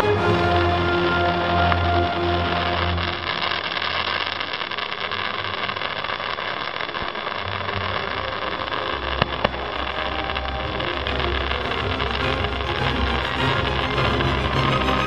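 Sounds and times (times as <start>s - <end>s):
steady rushing hiss: 0.0s - 15.0s
firework bangs: 1.0s - 15.0s.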